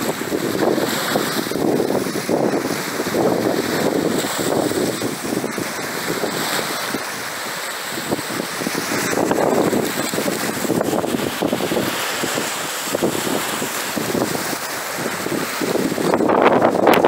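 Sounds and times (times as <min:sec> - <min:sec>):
choppy water splashing: 0:00.0 - 0:17.0
strong wind buffeting microphone: 0:00.0 - 0:17.0.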